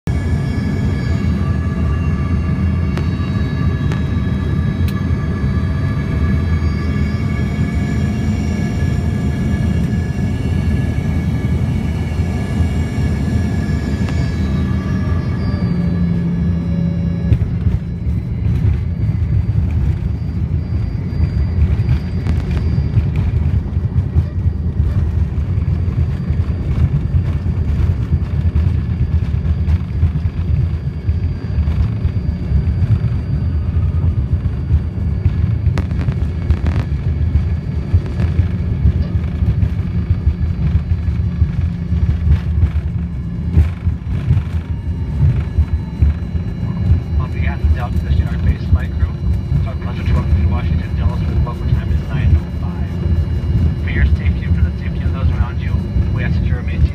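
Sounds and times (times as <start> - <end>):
jet engines whining: 0.1 - 56.9.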